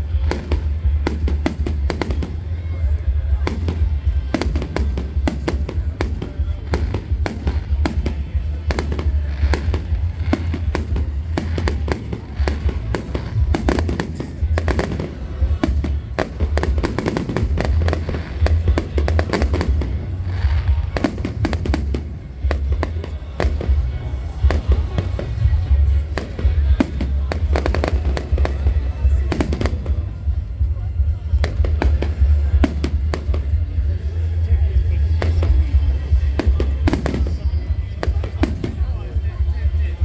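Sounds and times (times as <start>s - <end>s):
fireworks bangs and crackles: 0.0s - 40.0s
low rumble: 0.0s - 40.0s.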